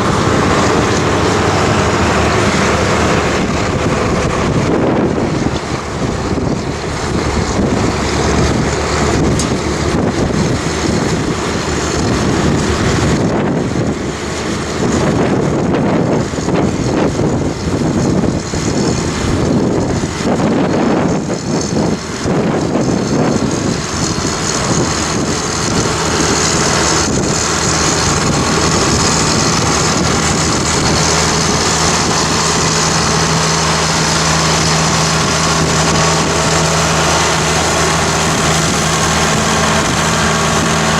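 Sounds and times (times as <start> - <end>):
tractor engine under load: 0.0 - 40.9
wind buffeting microphone: 0.0 - 40.9.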